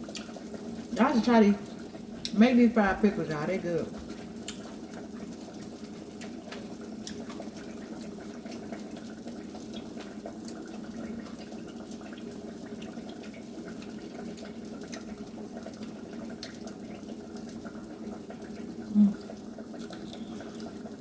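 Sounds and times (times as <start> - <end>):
grease popping and crackling: 0.0 - 21.0.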